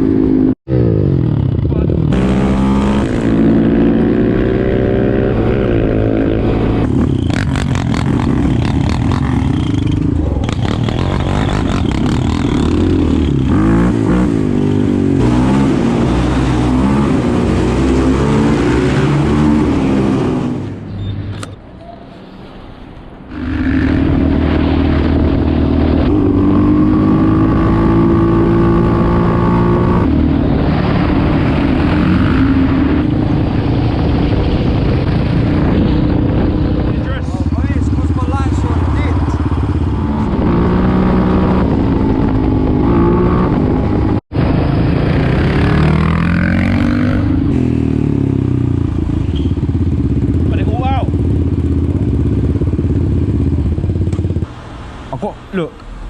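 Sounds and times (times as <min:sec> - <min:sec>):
quad bike engines revving: 0:00.0 - 0:21.6, 0:23.3 - 0:56.0.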